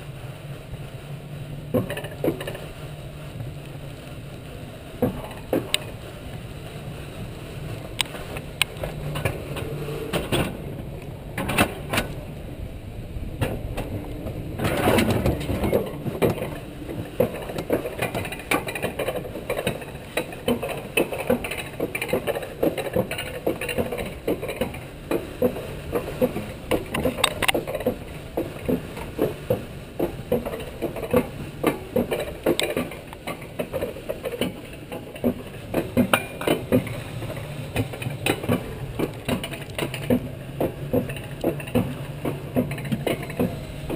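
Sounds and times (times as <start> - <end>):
sled wheels rattling on rail: 0.0 - 43.9
sharp clicks and knocks on track: 1.7 - 2.7, 5.0 - 5.9, 7.9 - 12.5, 13.3 - 43.9.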